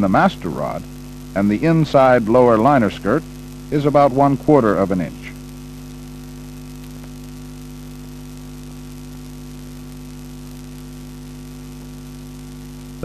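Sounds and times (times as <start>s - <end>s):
electrical mains hum: 0.0s - 13.0s
light hiss: 0.0s - 13.0s.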